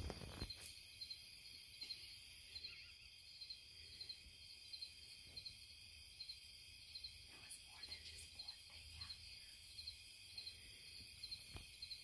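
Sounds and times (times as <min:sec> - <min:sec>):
faint insects chirping: 0:00.0 - 0:12.0.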